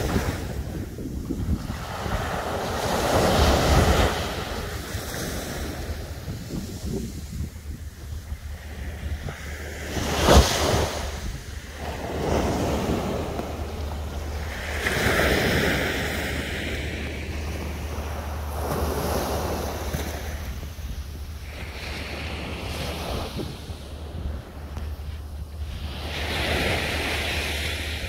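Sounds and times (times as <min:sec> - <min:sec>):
sea waves breaking on a beach: 0:00.0 - 0:28.0
wind rumble on microphone: 0:00.0 - 0:28.0.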